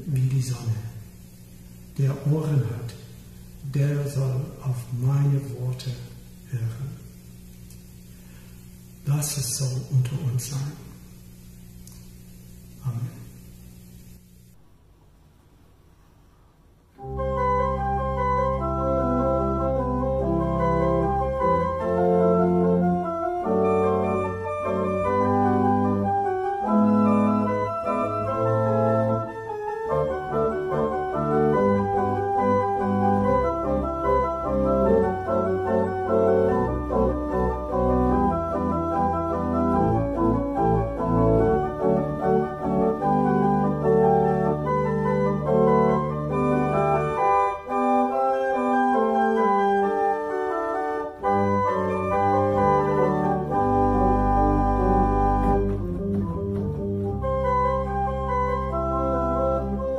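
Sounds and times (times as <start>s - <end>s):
pipe organ playing: 0.0s - 7.2s, 17.0s - 59.9s.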